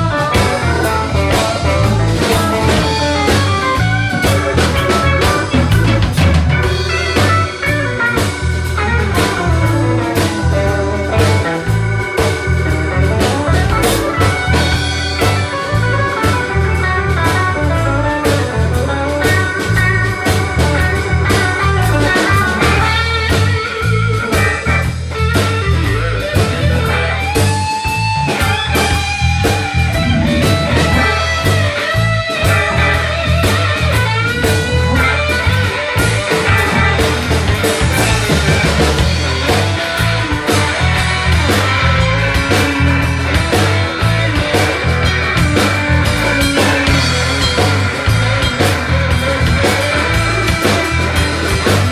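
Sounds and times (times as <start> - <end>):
bass: 0.0 - 51.9
drums: 0.0 - 51.9
keyboard: 0.0 - 51.9
lead electric guitar with bent notes: 0.0 - 51.9.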